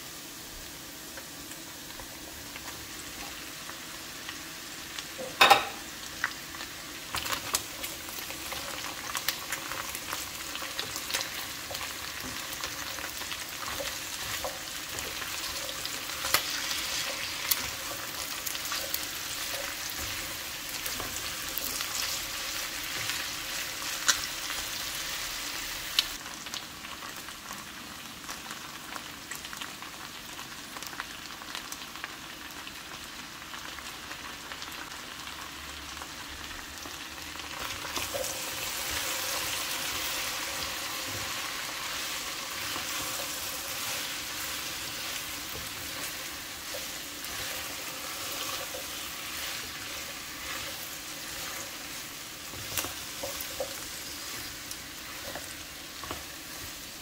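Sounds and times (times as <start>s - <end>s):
meat and vegetables sizzling in oil: 0.0s - 57.0s.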